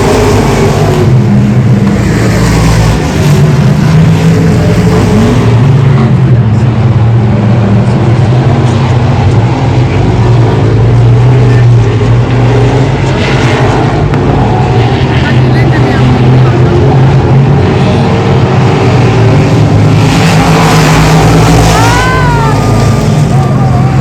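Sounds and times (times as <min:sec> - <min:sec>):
race car engines droning: 0:00.0 - 0:24.0.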